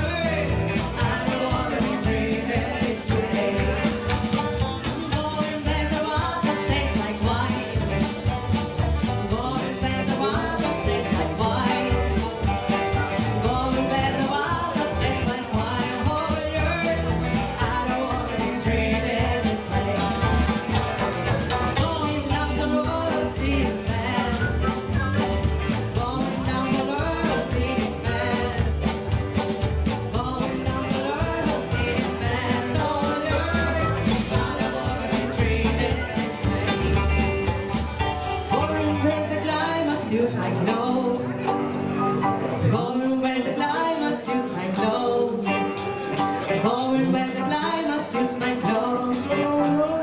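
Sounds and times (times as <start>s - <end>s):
live blues band playing: 0.0s - 50.0s.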